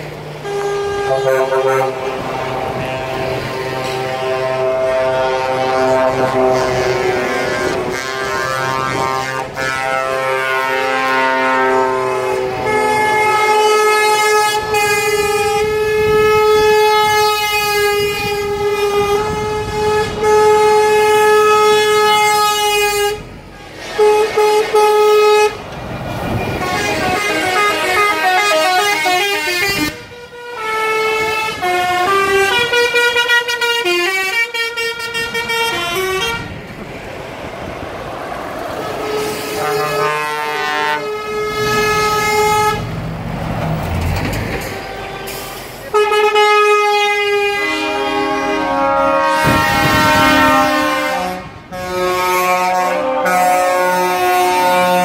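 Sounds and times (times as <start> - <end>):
truck air horns: 0.0 - 36.8, 37.7 - 55.0
diesel engines of passing lorries: 0.0 - 55.0.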